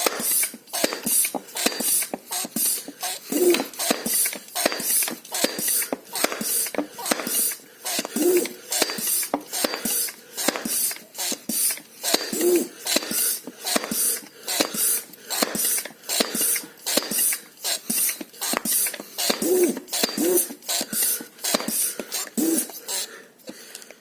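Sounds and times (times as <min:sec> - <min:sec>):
hand pump hissing strokes: 0:00.0 - 0:23.6
person panting: 0:00.0 - 0:24.0.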